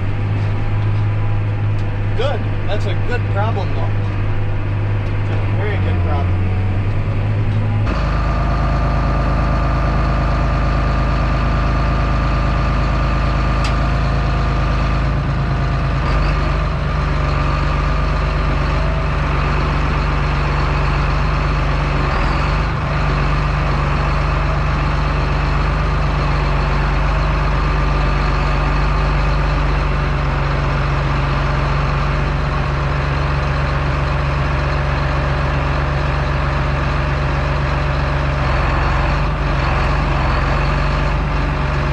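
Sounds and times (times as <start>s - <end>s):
heavy engine droning: 0.0s - 41.9s.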